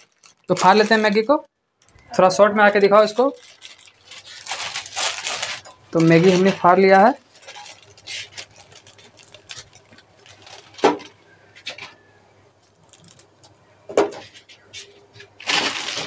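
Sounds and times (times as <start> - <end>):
plastic wrapper rustling: 0.0 - 2.1, 2.7 - 12.0, 12.7 - 13.4, 14.2 - 16.0.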